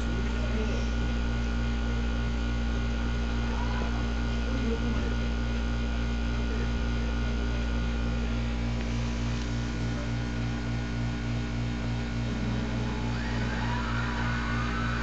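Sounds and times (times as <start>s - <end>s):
pulsing electrical hum: 0.0s - 15.0s.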